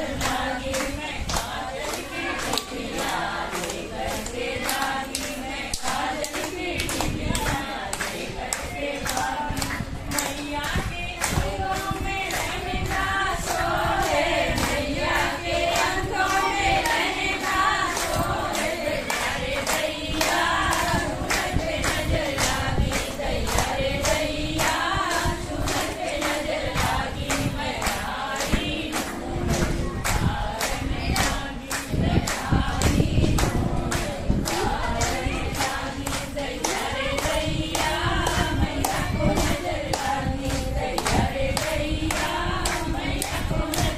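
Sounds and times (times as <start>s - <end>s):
hand claps: 0.0s - 43.9s
women singing together: 0.0s - 43.9s.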